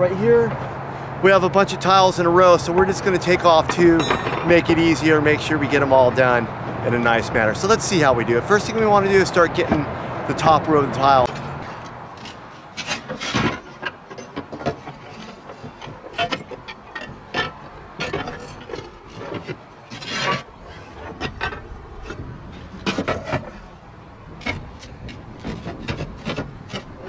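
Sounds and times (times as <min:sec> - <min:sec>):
clay roof tiles clinking and scraping: 0:01.6 - 0:06.4, 0:07.0 - 0:27.0.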